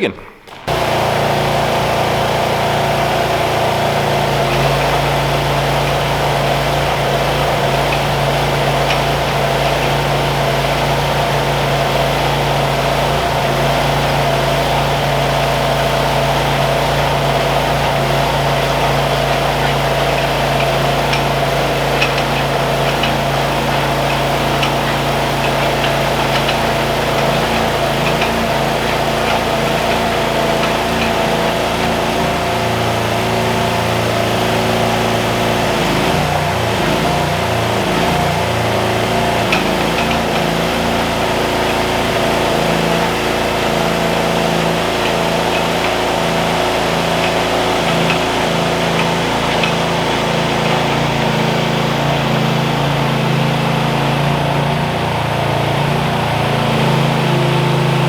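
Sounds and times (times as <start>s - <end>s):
digging machine engine running: 0.0s - 58.0s.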